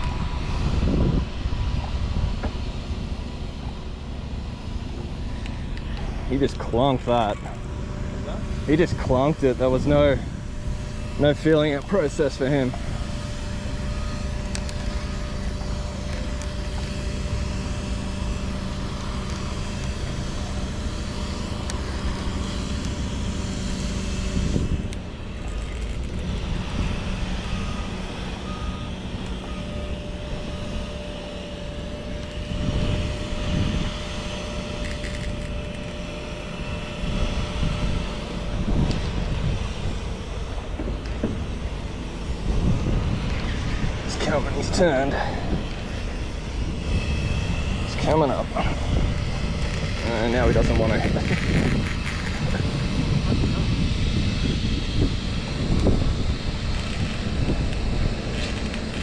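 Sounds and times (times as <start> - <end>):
low rumbling noise: 0.0 - 59.0
motor hum: 0.0 - 59.0.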